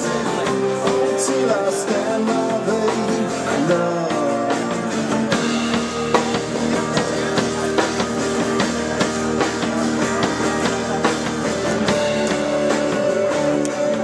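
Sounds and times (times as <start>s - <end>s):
rock guitar: 0.0s - 14.0s
steady drum beat: 0.0s - 14.0s.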